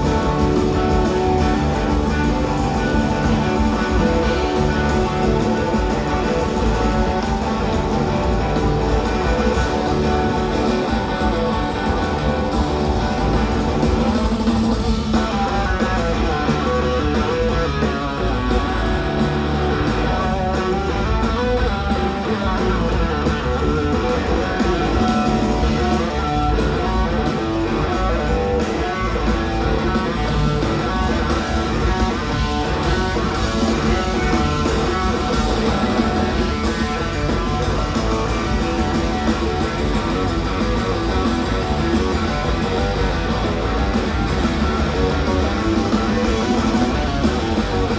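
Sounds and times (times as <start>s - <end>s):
bass guitar: 0.0s - 47.9s
drums: 0.0s - 47.9s
electric guitar lead: 0.0s - 47.9s
keyboards: 0.0s - 47.9s.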